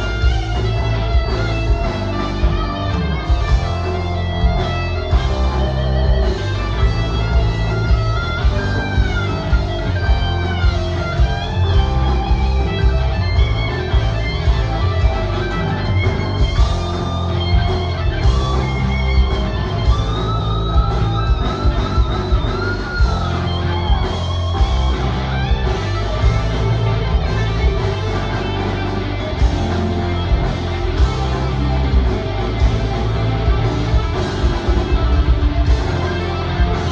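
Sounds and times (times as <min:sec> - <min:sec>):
bass and drums: 0:00.0 - 0:36.9
electric guitar lead: 0:00.0 - 0:36.9.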